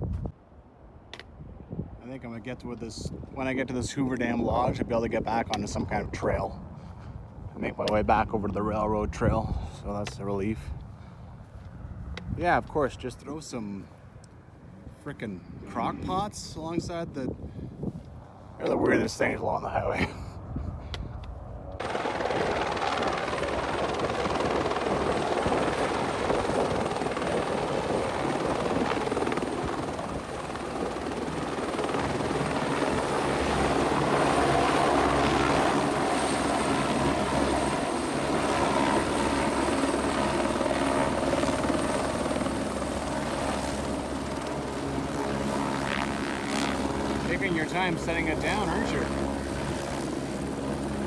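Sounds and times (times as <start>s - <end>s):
helicopter rotor and engine: 1.1s - 51.0s.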